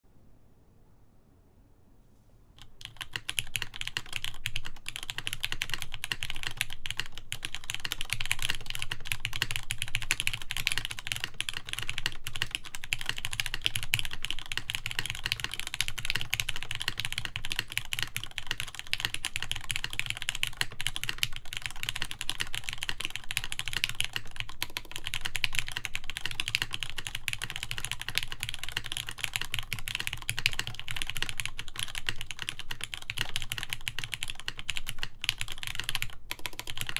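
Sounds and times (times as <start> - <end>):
fast typing on mechanical keyboard: 2.6 - 36.9.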